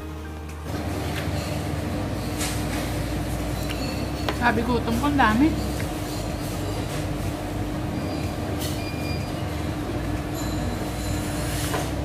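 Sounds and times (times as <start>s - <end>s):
restaurant background hum: 0.0s - 12.0s.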